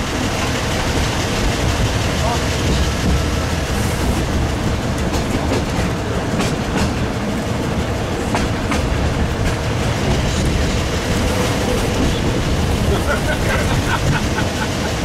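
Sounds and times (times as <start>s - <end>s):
railway carriage rumbling: 0.0s - 15.0s
wheels clacking over rails: 0.0s - 15.0s.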